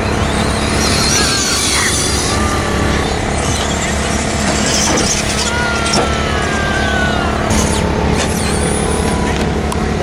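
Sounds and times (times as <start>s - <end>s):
toy truck motors whining: 0.0s - 9.6s
continuous rush of noise: 0.0s - 10.0s.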